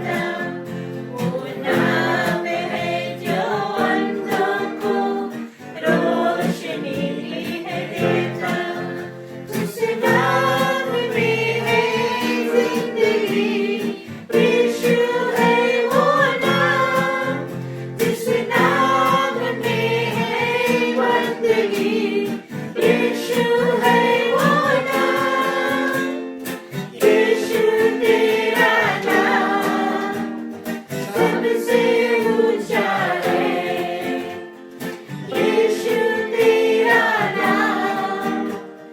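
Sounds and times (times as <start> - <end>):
group of voices singing: 0.0 - 38.9
plucked string accompaniment: 0.0 - 38.9.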